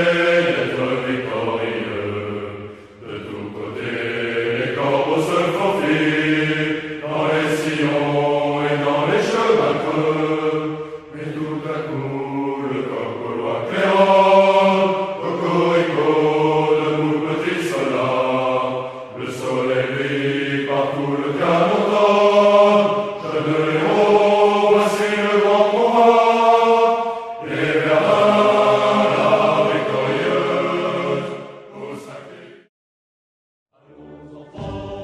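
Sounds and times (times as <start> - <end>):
choir singing slow anthem: 0.0 - 32.7, 33.8 - 35.0.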